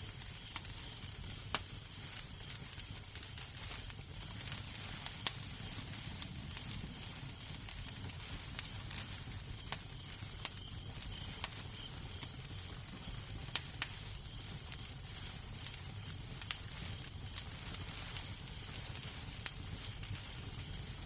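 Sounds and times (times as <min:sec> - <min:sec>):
fire crackles and pops: 0:00.0 - 0:21.0
wood fire burning: 0:00.0 - 0:21.0.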